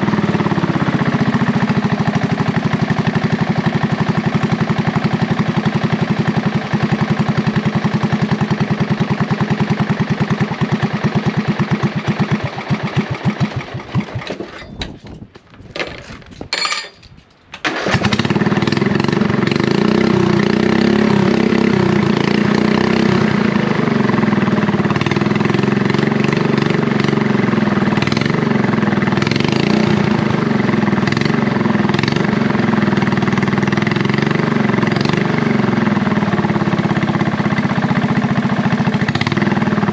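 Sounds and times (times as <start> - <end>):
mower engine running: 0.0 - 14.7, 17.6 - 39.9.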